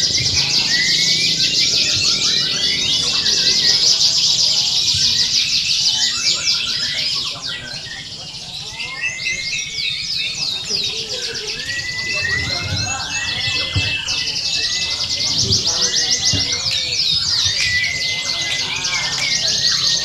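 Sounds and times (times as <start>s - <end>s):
canaries singing: 0.0s - 20.0s
murmur of voices: 0.0s - 20.0s.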